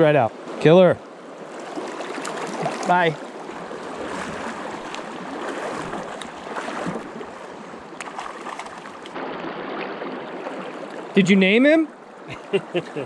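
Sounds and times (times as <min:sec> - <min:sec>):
creek rushing over rocks: 0:00.0 - 0:11.5.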